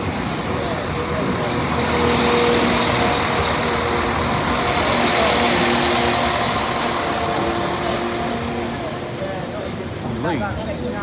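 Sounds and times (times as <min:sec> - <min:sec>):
diesel train rumbling past: 0:00.0 - 0:11.0.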